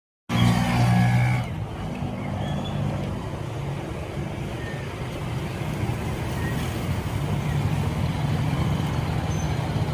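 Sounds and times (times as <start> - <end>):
low traffic rumble: 0.3 - 9.9
vehicle engine hum: 0.3 - 9.9.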